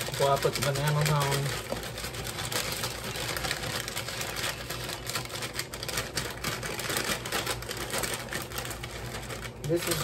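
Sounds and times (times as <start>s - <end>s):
cookies shifting in bag: 0.0s - 10.0s
plastic bag crinkling: 0.0s - 10.0s.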